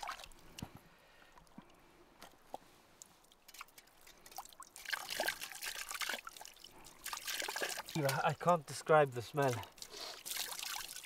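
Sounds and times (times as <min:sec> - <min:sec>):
water dripping: 0:00.0 - 0:11.0.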